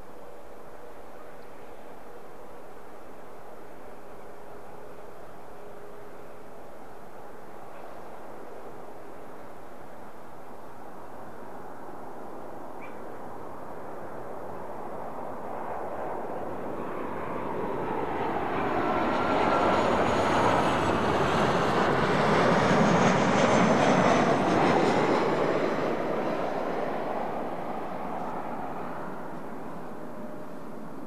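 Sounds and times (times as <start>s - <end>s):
jet engines passing by: 0.1s - 31.0s.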